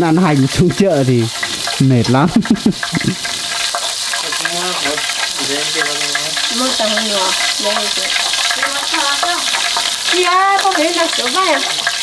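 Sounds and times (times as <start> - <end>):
voices talking: 0.0 - 3.3, 4.2 - 11.9
food sizzling in a pan: 0.0 - 12.0.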